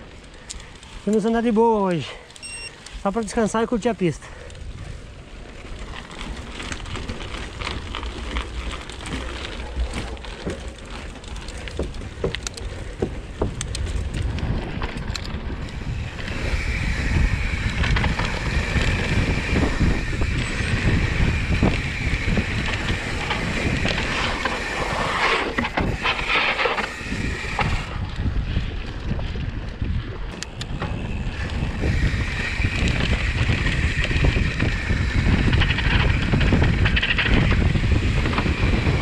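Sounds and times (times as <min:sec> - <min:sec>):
bike parts rattling: 0:00.0 - 0:29.4, 0:30.0 - 0:39.0
bike tyres rolling on dirt: 0:00.0 - 0:39.0
wind buffeting microphone: 0:00.0 - 0:39.0.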